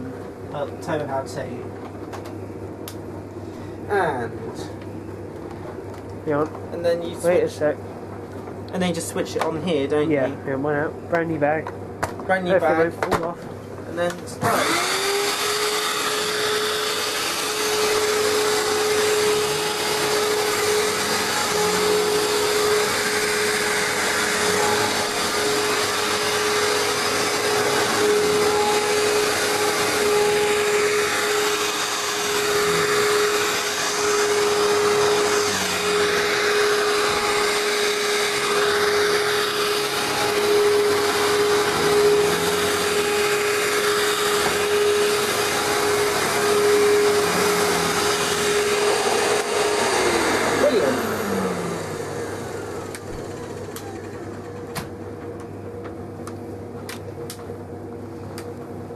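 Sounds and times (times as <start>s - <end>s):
vacuum cleaner running: 0.0s - 8.2s, 8.8s - 58.9s.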